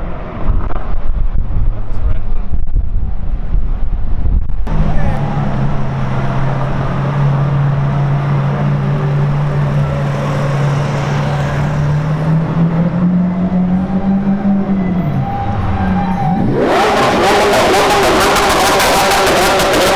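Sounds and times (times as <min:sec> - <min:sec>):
street traffic noise: 0:00.0 - 0:19.9.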